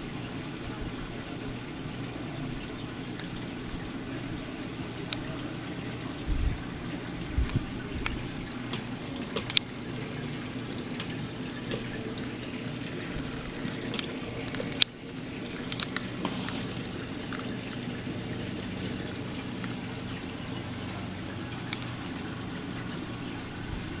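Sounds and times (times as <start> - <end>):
aquarium water trickling: 0.0 - 24.0.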